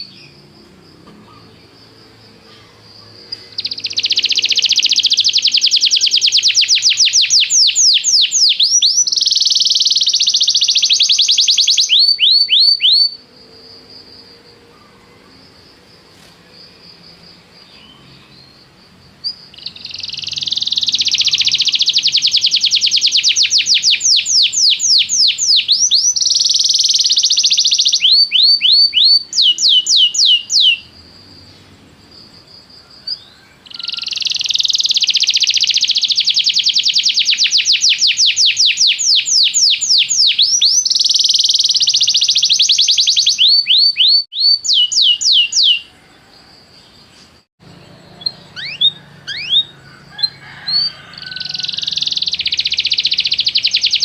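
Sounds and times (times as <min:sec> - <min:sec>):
canary singing trills: 0:00.0 - 0:15.6, 0:16.5 - 0:31.0, 0:32.8 - 0:54.0.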